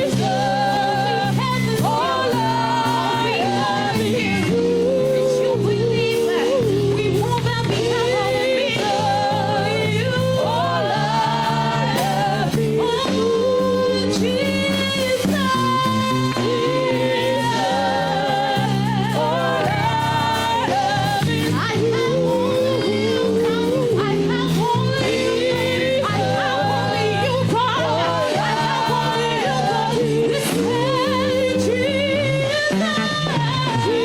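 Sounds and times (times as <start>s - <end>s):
singing with vibrato: 0.0s - 34.0s.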